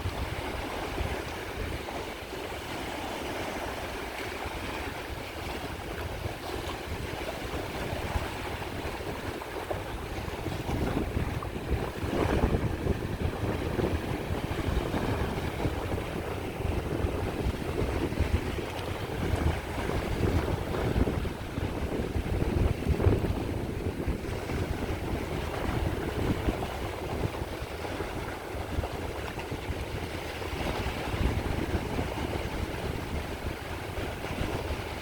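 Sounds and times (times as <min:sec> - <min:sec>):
sea waves washing on shore: 0:00.0 - 0:35.0
wind buffeting microphone: 0:00.0 - 0:35.0.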